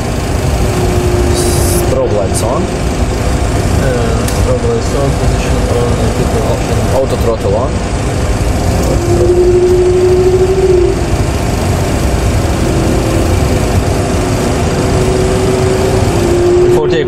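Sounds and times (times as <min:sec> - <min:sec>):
jet engine low rumble: 0:00.0 - 0:17.0
jet engine whining tone: 0:00.0 - 0:17.0.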